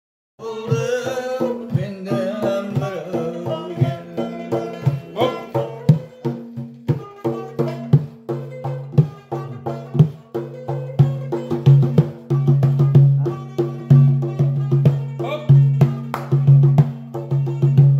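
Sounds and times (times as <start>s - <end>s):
frame drum beaten by hand: 0.4s - 17.9s.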